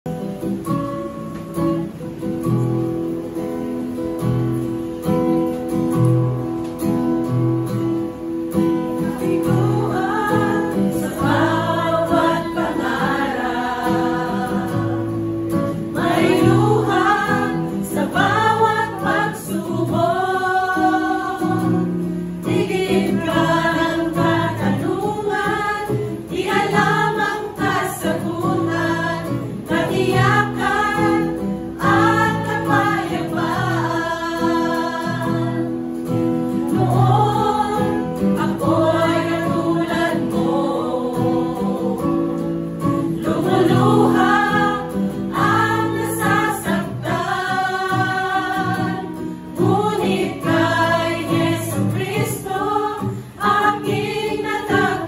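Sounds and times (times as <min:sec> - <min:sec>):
guitar accompaniment: 0:00.0 - 0:55.0
women's choir singing: 0:08.4 - 0:55.0.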